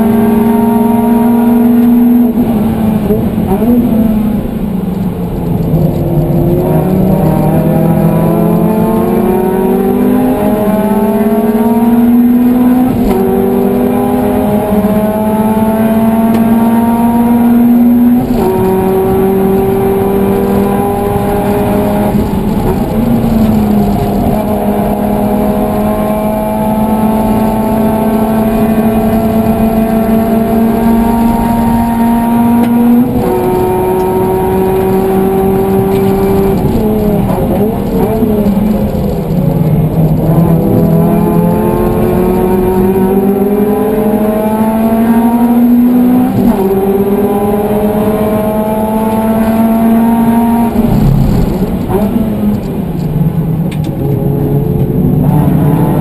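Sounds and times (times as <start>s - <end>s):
car engine at full throttle: 0.0s - 56.0s.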